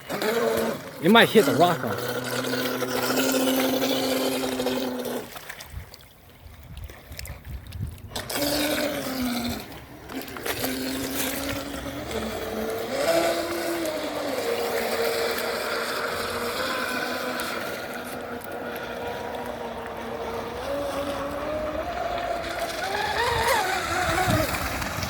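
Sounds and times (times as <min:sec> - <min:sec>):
electric motor whining: 0:00.0 - 0:05.3, 0:08.2 - 0:25.0.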